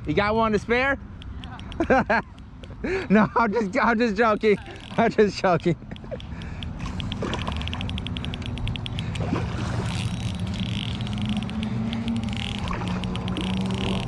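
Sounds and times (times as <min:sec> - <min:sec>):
engine humming: 0:01.0 - 0:14.0
fishing reel clicking: 0:01.1 - 0:02.7, 0:04.1 - 0:14.0.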